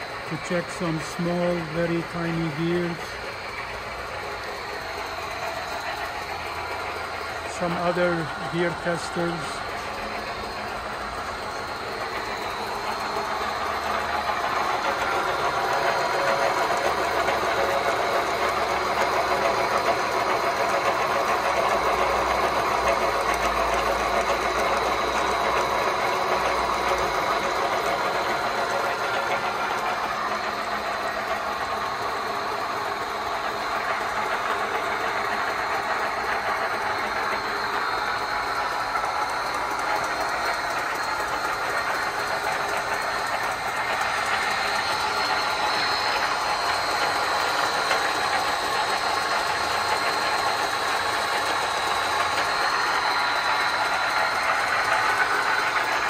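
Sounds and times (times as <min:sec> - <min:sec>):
machine whir and clatter: 0:00.0 - 0:56.0.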